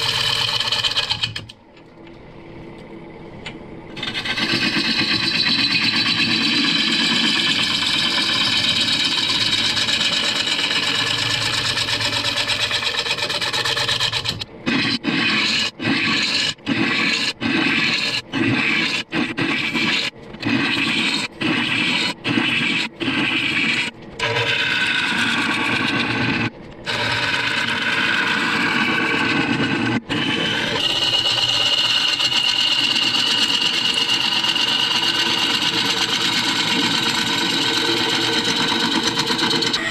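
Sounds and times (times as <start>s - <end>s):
lathe gouge scraping wood: 4.0s - 39.8s.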